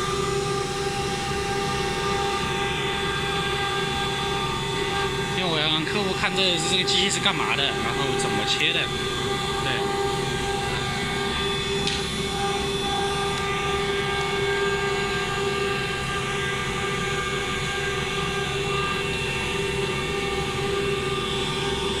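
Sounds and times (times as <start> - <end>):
router spindle whining: 0.0 - 22.0.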